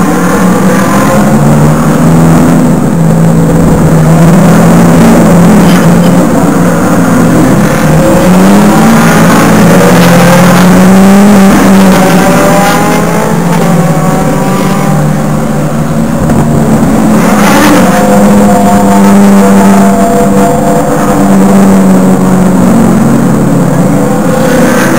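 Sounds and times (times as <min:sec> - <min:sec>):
racing car engines accelerating: 0:00.0 - 0:24.9.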